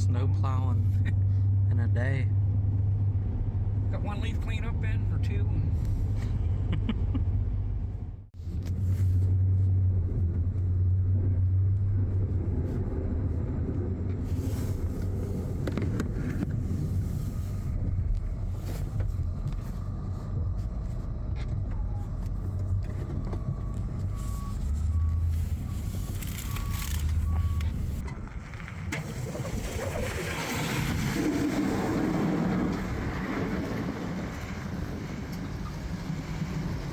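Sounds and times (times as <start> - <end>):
truck engine rumbling: 0.0 - 36.9.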